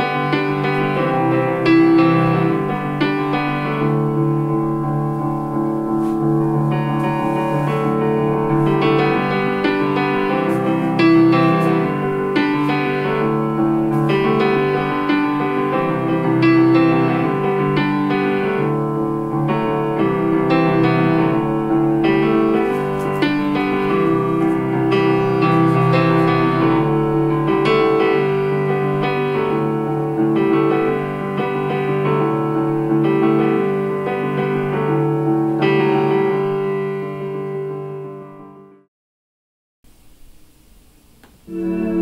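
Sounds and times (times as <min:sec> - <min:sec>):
piano music through small speakers: 0:00.0 - 0:38.9, 0:39.9 - 0:42.0.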